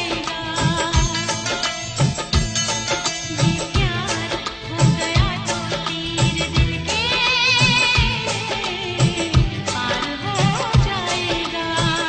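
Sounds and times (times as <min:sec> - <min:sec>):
film song with low drum beats: 0:00.0 - 0:12.0.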